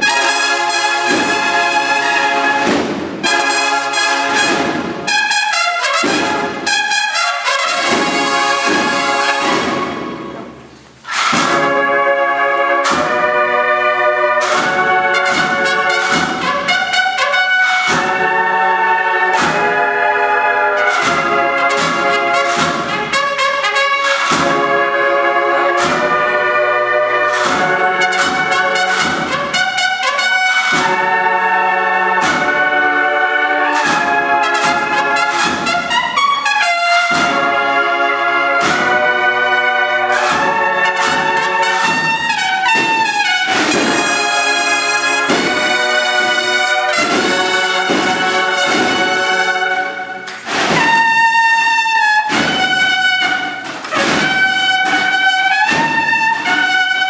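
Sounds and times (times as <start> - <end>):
regular drum strokes: 0.0 - 11.9, 14.2 - 18.5, 20.8 - 24.7, 25.7 - 31.3, 33.6 - 37.6, 38.6 - 57.0
brass band playing a march: 0.0 - 57.0.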